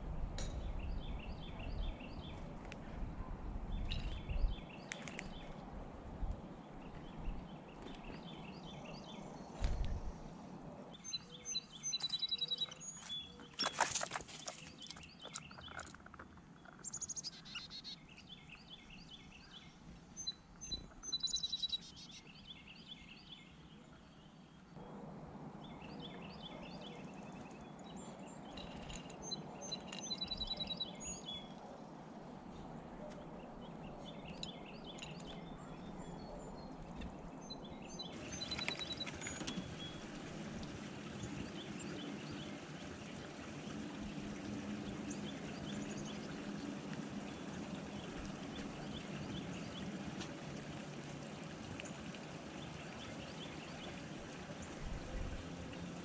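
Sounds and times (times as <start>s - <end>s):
songbirds chirping: 0.1s - 56.0s.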